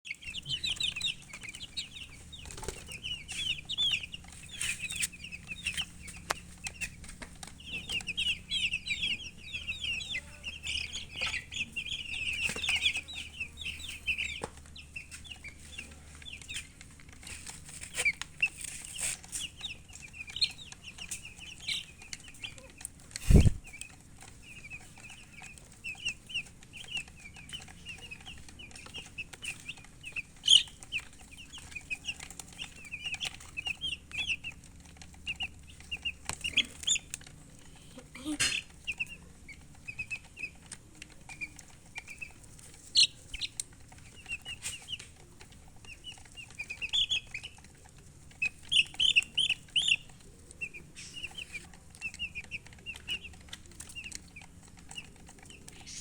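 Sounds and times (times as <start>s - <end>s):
baby chicks peeping: 0.0s - 56.0s.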